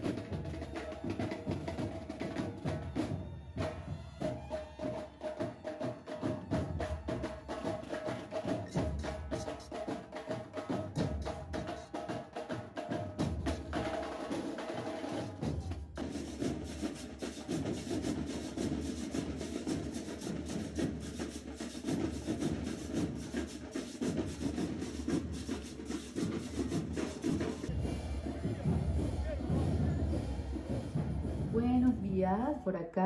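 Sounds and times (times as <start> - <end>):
snare drums playing: 0.0 - 32.4.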